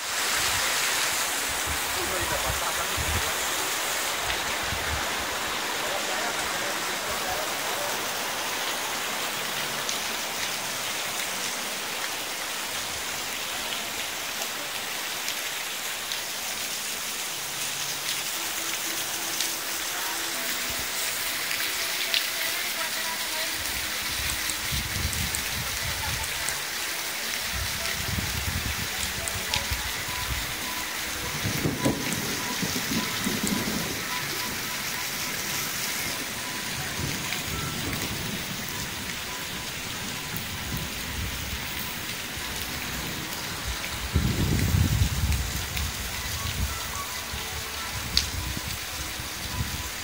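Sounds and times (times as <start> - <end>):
heavy rain on pavement and water: 0.0 - 50.0.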